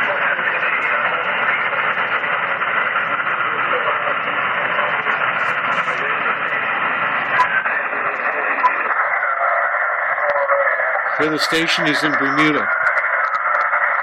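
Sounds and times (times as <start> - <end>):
radio static hiss: 0.0 - 14.0
weak distant radio voice: 0.0 - 14.0.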